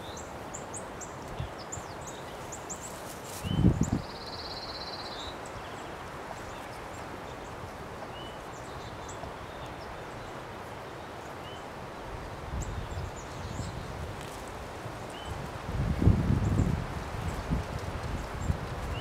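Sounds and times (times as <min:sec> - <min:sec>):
small birds chirping: 0:00.0 - 0:19.0
steady background hiss: 0:00.0 - 0:19.0.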